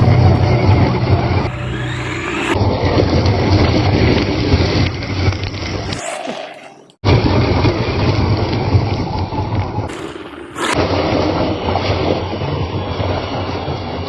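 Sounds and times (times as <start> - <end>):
toy car motor and tyres rumbling: 0.0 - 14.0.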